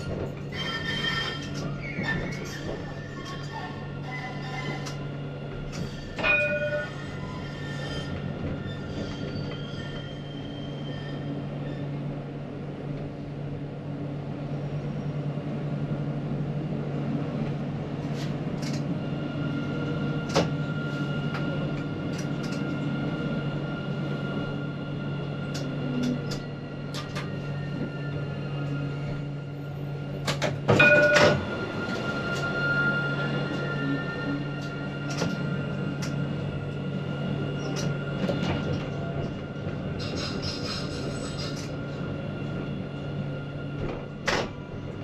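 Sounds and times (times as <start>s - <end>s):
tram hum with rail noise: 0.0s - 45.0s.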